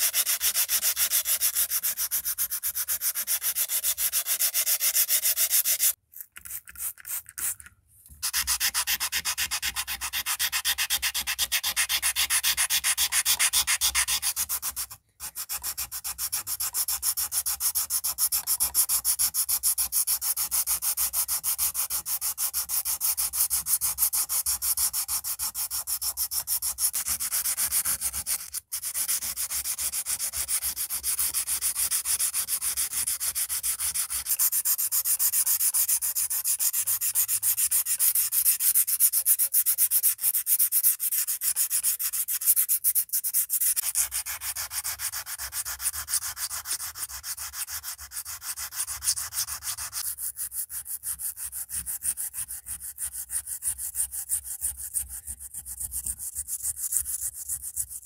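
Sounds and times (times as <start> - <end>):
sandpaper scratching steel blade: 0.0 - 7.6, 8.2 - 58.0.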